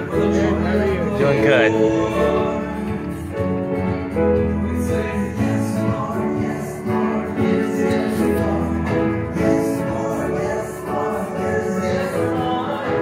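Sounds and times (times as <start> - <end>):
person singing worship song: 0.0 - 3.4, 4.4 - 13.0
instrumental accompaniment with bass: 0.0 - 13.0.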